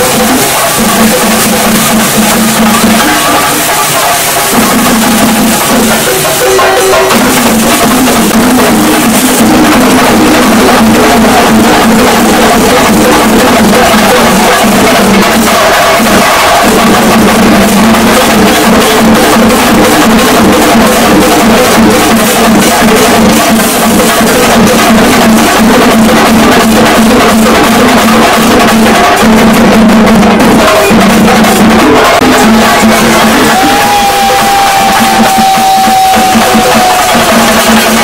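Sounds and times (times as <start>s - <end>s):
drums beaten fast with sticks: 0.0s - 38.0s.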